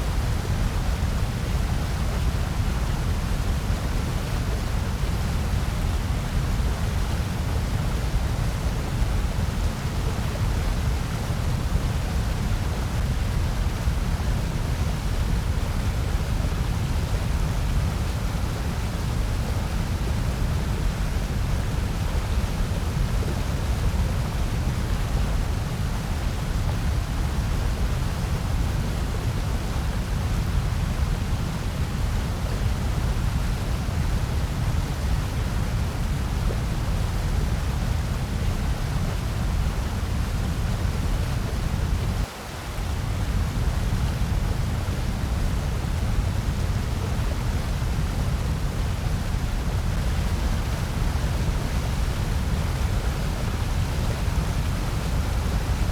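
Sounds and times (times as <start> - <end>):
white noise hiss: 0.0 - 55.9.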